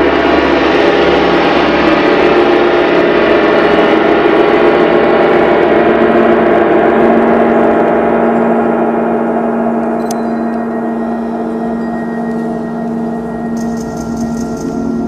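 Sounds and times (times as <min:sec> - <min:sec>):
gongs ringing: 0:00.0 - 0:15.0
steady low hum: 0:00.0 - 0:15.0.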